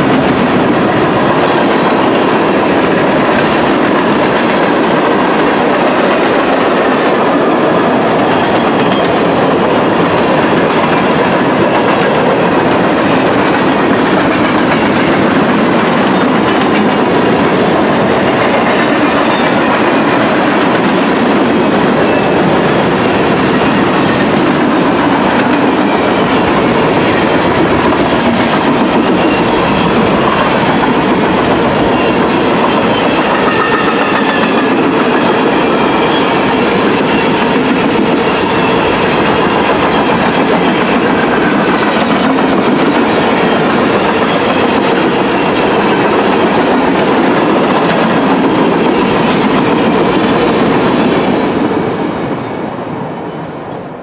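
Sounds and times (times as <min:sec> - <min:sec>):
wheels clickety-clack on rail joints: 0:00.0 - 0:51.8
steel wheels rushing on rails: 0:00.0 - 0:53.9.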